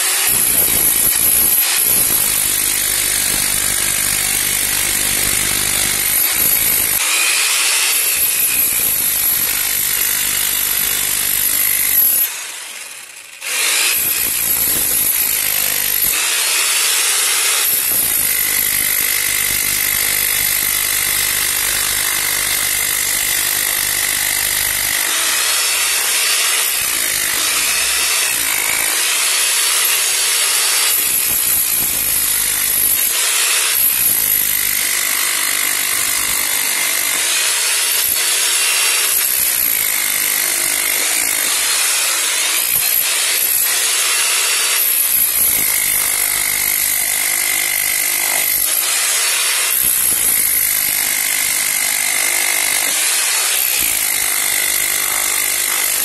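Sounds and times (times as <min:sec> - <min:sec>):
demolition hammer breaking concrete: 0:00.0 - 0:56.0.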